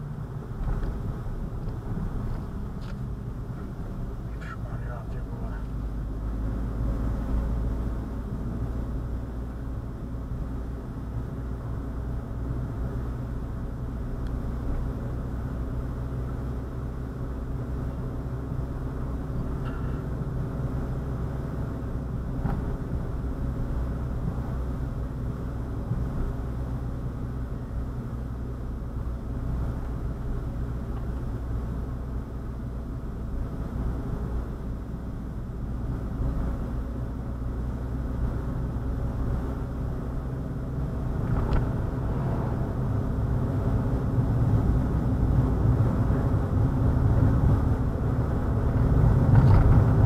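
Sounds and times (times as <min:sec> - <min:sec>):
road noise: 0:00.0 - 0:50.0
vehicle engine hum: 0:00.0 - 0:50.0.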